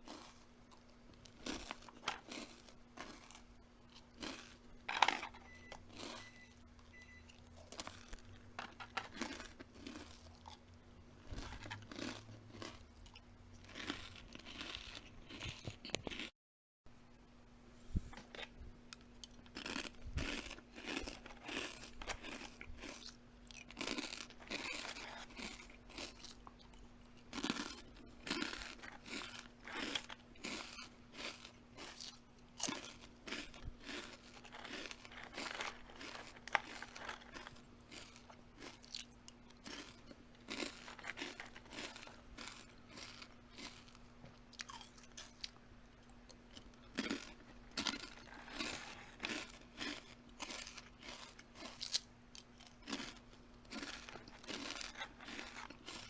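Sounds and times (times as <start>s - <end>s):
chewing crunchy food: 0.0s - 16.3s, 18.0s - 56.0s.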